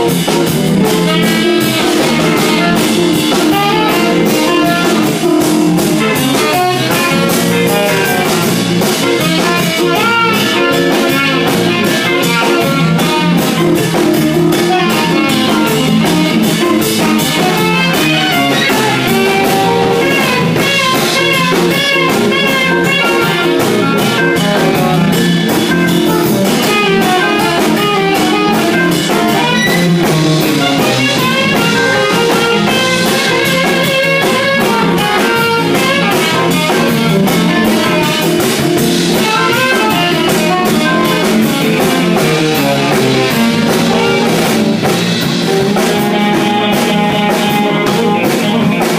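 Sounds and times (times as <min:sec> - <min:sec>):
blues guitar with bent notes: 0:00.0 - 0:48.9
drum kit: 0:00.0 - 0:48.9.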